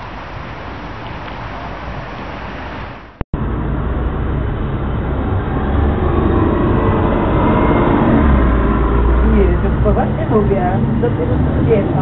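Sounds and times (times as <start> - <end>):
bus driving past: 0.0 - 12.0
outdoor background noise: 0.0 - 12.0.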